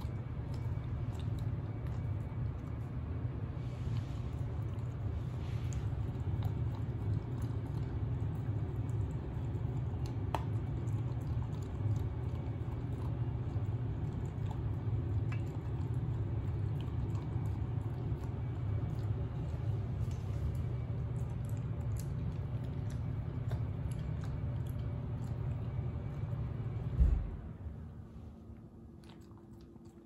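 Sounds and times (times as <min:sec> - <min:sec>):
dog chewing: 0:00.0 - 0:03.1, 0:03.7 - 0:27.0, 0:28.8 - 0:30.0
low rumble: 0:00.0 - 0:30.0.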